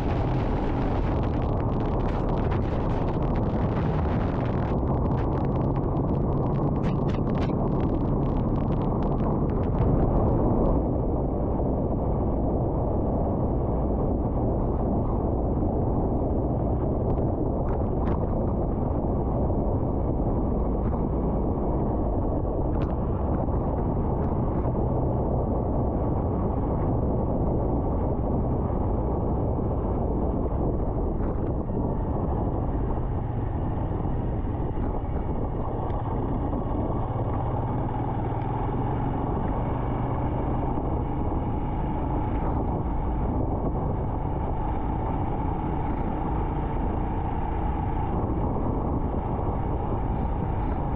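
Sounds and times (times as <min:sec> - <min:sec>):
wind rushing: 0:00.0 - 0:50.9.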